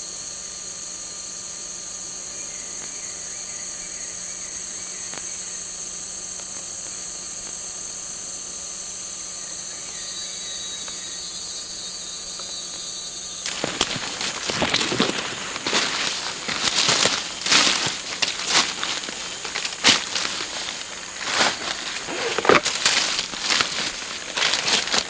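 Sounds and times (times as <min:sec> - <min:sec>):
insects chorus: 0:00.0 - 0:25.0
low steady hum: 0:00.0 - 0:25.0.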